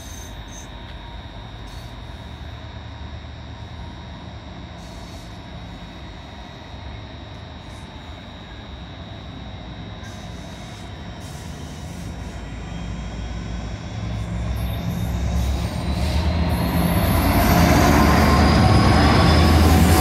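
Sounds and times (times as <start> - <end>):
diesel locomotive engine passing: 0.0 - 20.0.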